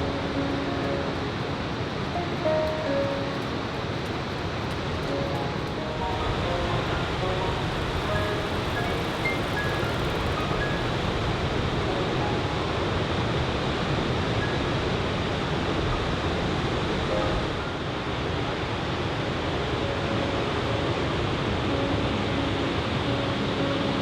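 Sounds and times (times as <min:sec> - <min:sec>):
strong wind: 0:00.0 - 0:24.0.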